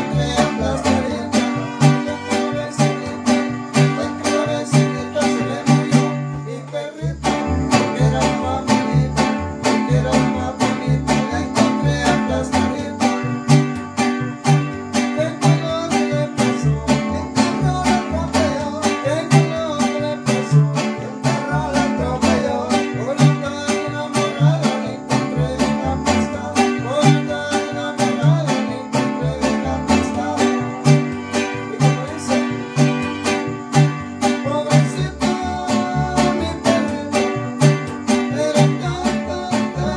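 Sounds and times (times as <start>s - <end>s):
bass line: 0.0s - 39.9s
strummed guitar-like strings: 0.0s - 39.9s.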